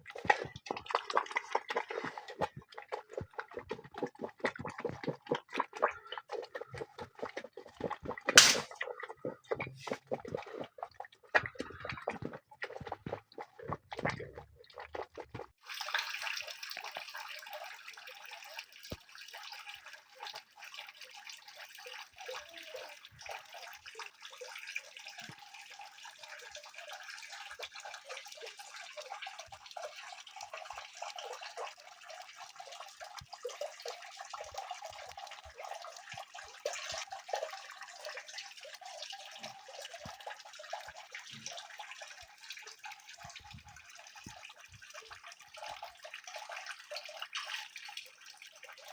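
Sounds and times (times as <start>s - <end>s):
water splashing and trickling: 0.0s - 48.9s.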